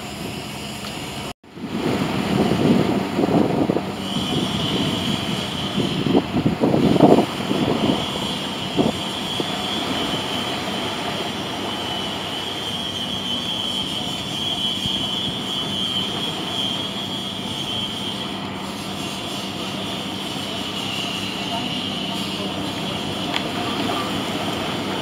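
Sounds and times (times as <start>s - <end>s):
jet engine high whine: 0.0s - 25.0s
jet engines rumbling: 0.0s - 25.0s.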